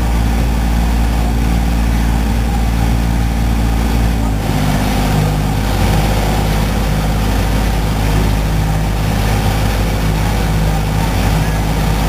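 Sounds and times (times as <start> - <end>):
ferry engine droning: 0.0 - 12.0
water rushing: 0.0 - 12.0
wind: 0.0 - 12.0.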